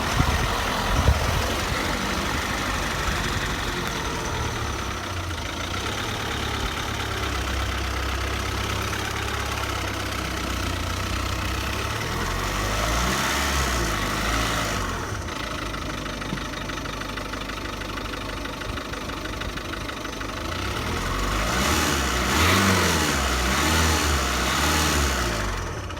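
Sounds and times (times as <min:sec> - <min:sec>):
car engine running with a rattle: 0:00.0 - 0:25.9.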